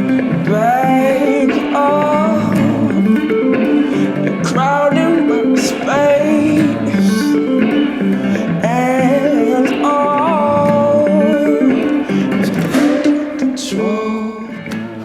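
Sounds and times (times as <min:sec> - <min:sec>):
man singing in a high voice: 0:00.0 - 0:15.0
picked guitar pattern: 0:00.0 - 0:15.0.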